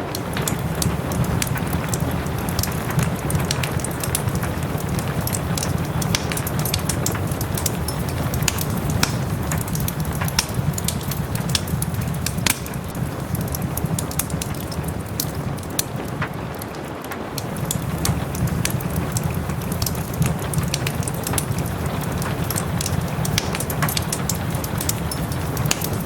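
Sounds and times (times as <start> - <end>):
soft rain hiss: 0.0 - 26.0
wood fire crackling and popping: 0.0 - 26.0.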